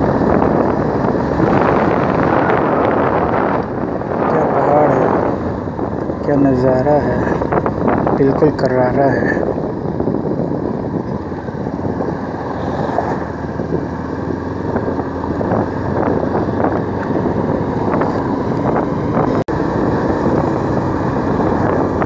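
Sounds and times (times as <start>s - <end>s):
motorcycle engine running: 0.0s - 22.0s
tyre noise on rough road: 0.0s - 22.0s
wind buffeting microphone: 0.0s - 22.0s.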